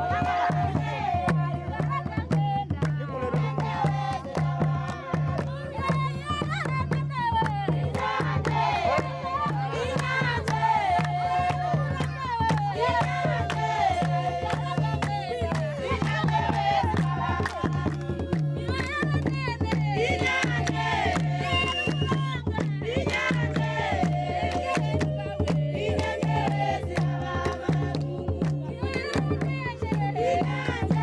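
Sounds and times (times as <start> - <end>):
group of voices singing: 0.0 - 31.0
steady drum beat: 0.0 - 31.0.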